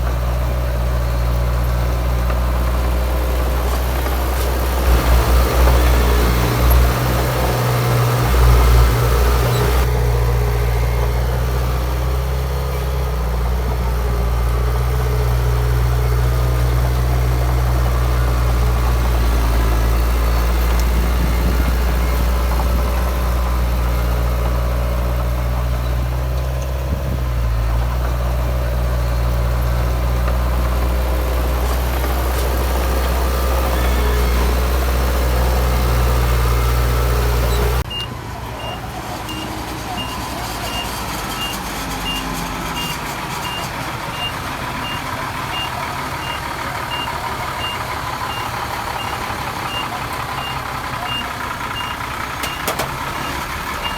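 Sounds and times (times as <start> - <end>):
bulldozer diesel engine droning: 0.0 - 53.9.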